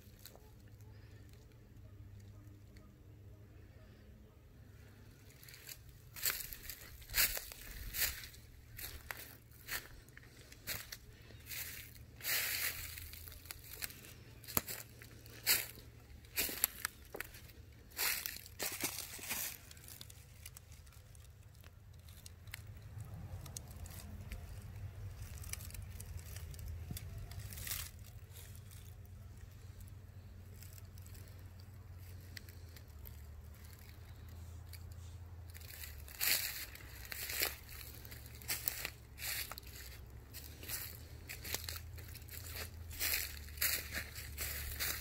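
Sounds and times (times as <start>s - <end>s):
low steady rumble: 0.0s - 45.0s
footsteps crunching dry leaves: 4.9s - 21.4s, 22.2s - 45.0s.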